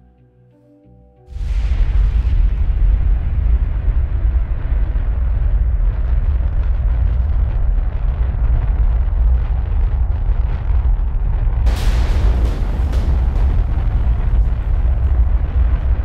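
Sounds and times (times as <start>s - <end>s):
rocket engines rumbling: 1.4s - 16.0s.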